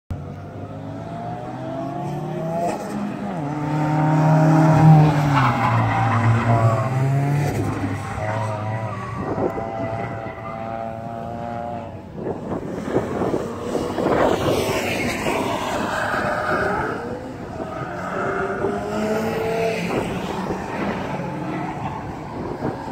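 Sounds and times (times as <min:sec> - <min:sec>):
tires squealing on asphalt: 0:01.6 - 0:22.9.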